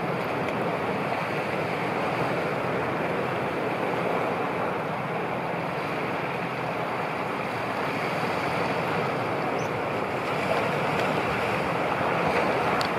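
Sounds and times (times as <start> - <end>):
choppy sea waves: 0.0 - 12.9
wind over water: 0.0 - 12.9.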